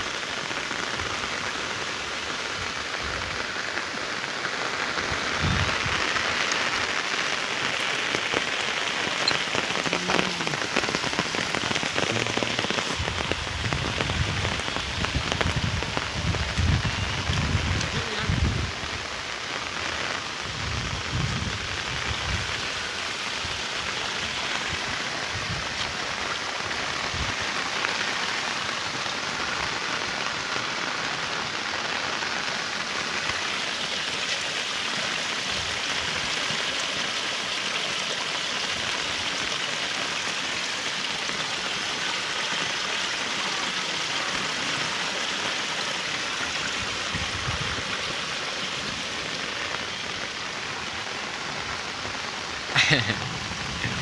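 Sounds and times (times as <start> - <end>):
steady rain on wet ground: 0.0 - 54.0.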